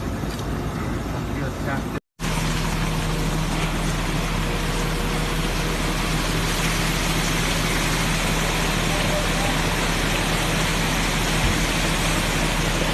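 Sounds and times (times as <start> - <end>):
mechanical running noise with low hum: 0.0 - 12.9.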